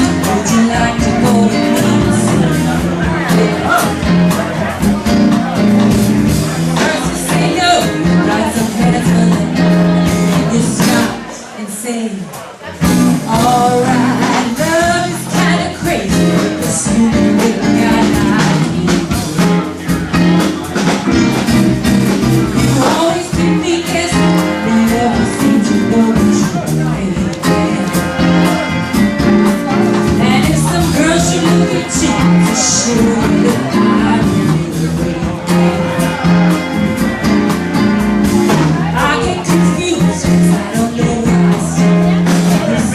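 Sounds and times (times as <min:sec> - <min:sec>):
steady drum beat: 0:00.0 - 0:11.3, 0:12.8 - 0:42.9
bass guitar: 0:00.0 - 0:11.4, 0:12.6 - 0:42.9
electric guitar: 0:00.0 - 0:11.4, 0:12.7 - 0:42.9
rock and roll band playing: 0:00.0 - 0:42.9.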